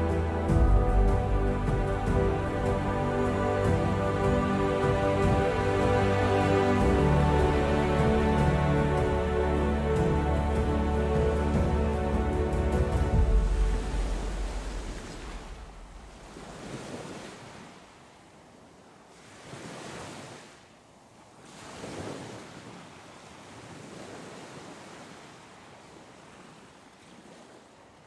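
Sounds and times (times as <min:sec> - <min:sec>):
ocean waves breaking: 0:00.0 - 0:20.7, 0:21.3 - 0:27.8.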